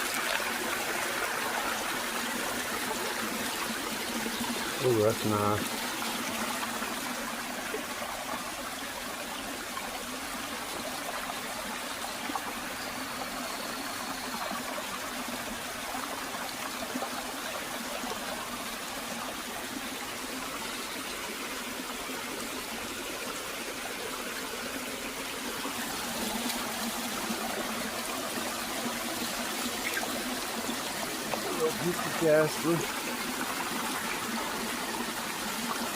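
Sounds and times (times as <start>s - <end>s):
water trickling over rocks: 0.0s - 35.9s.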